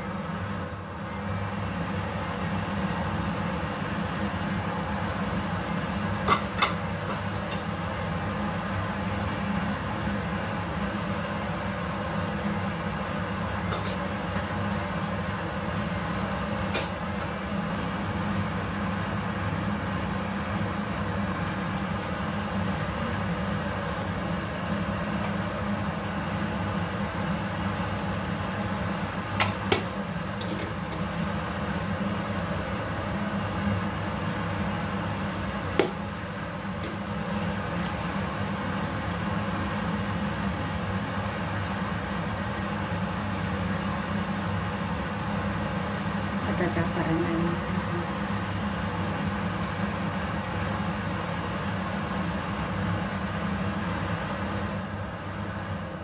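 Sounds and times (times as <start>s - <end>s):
extractor fan humming: 0.0s - 56.0s.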